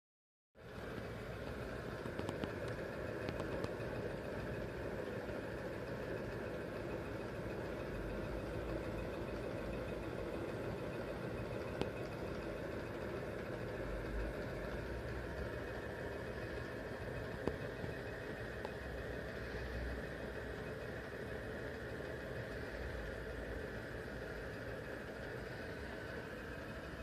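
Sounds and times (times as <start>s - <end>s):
small engine whirring hum: 0.6s - 27.0s.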